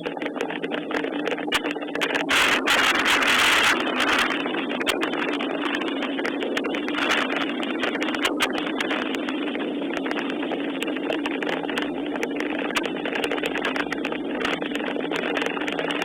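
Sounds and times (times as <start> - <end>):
raindrops ticking on surfaces: 0.0 - 16.0
steady rain hiss: 0.6 - 16.0.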